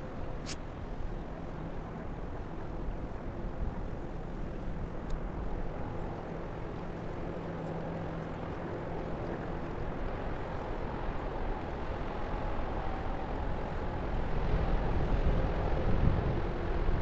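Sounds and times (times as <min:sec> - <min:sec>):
faint engine hum: 0:00.0 - 0:17.0.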